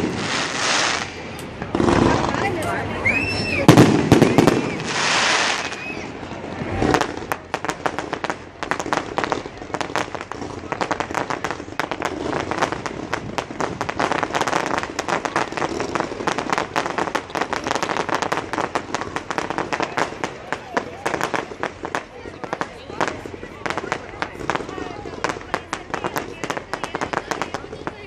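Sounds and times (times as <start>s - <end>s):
dense firework crackling: 0.0s - 28.0s
firework boom: 0.0s - 28.0s
fireworks hissing crackle: 0.0s - 28.0s.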